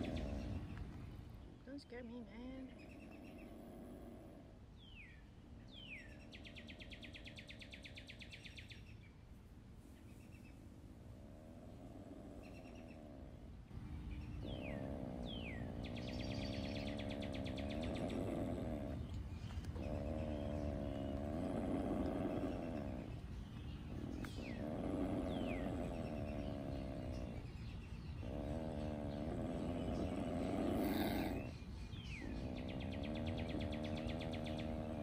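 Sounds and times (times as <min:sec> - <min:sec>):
opossum growling: 0:00.0 - 0:01.1, 0:01.7 - 0:08.9, 0:10.8 - 0:35.0.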